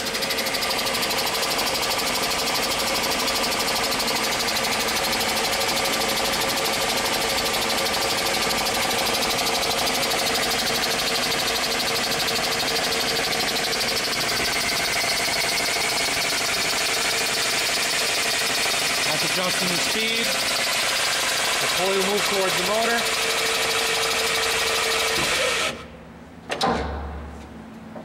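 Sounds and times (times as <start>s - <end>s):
band saw motor whirring: 0.0s - 25.9s.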